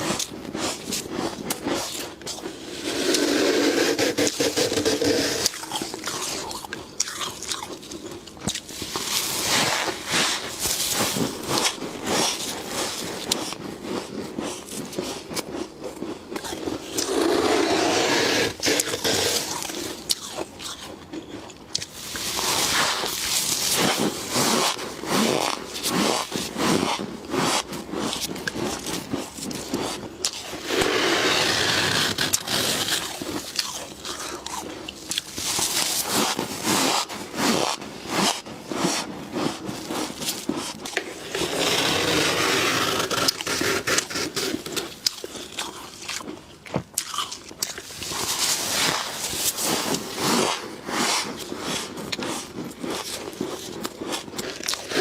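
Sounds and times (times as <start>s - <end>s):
frost being scraped: 0.0s - 6.7s, 7.3s - 20.9s, 21.8s - 46.4s, 47.6s - 55.0s
crunching and chewing: 0.0s - 55.0s.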